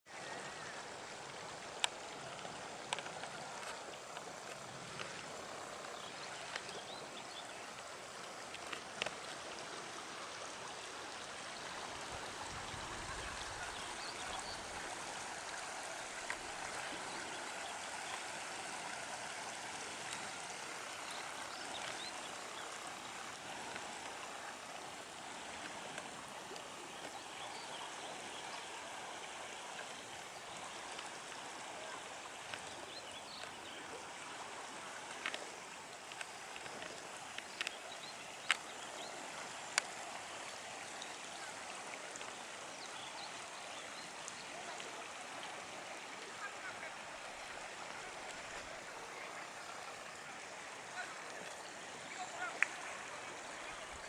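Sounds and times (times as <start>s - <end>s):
flowing water rushing: 0.1s - 54.0s.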